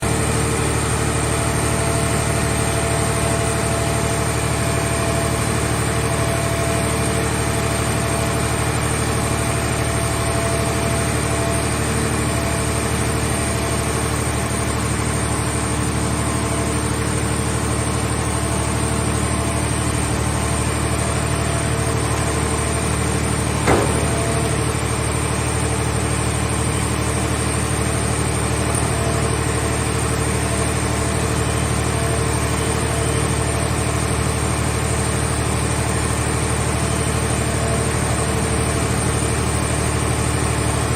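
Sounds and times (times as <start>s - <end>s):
hydraulic power unit humming: 0.0s - 40.9s.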